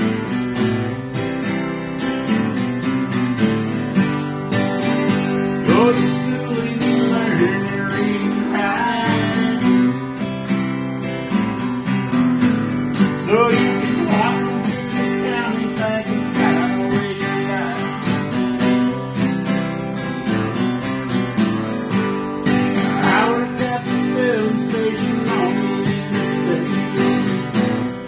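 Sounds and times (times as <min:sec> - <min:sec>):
acoustic guitar melody with bent notes: 0:00.0 - 0:28.0
acoustic guitar strumming chords: 0:00.0 - 0:28.0.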